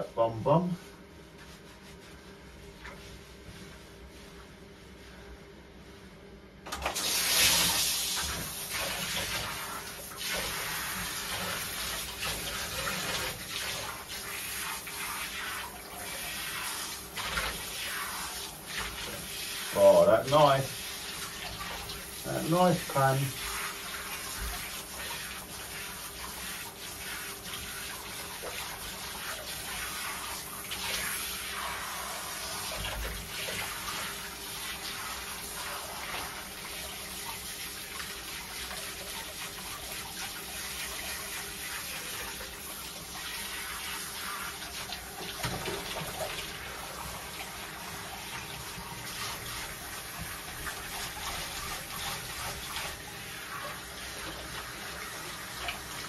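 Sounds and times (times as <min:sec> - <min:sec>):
shower spraying water: 0:06.7 - 0:56.0
water splashing into bathwater: 0:06.7 - 0:56.0.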